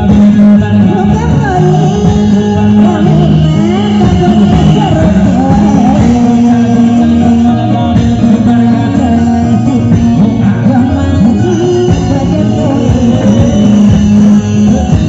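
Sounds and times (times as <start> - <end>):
loud street performance music: 0.0 - 15.0
person singing: 0.0 - 15.0.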